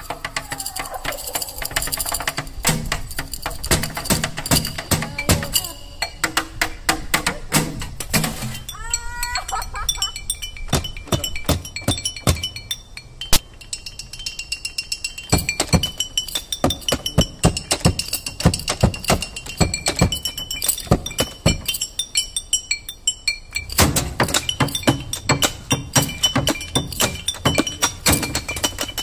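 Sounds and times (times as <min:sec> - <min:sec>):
clinking percussion music: 0:00.0 - 0:29.0.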